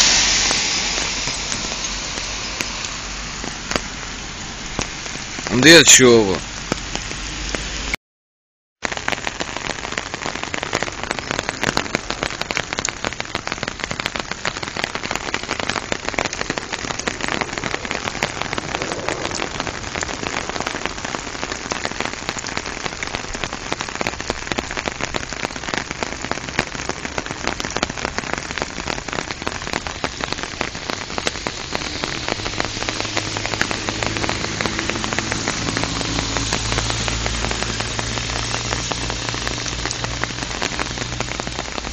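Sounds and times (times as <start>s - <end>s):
rain falling on wet road: 0.0s - 8.0s, 8.8s - 41.9s.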